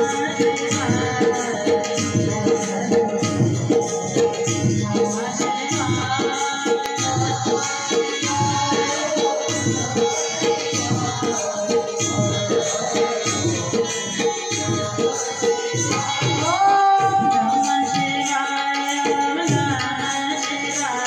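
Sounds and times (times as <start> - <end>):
tabla beat: 0.0 - 21.0.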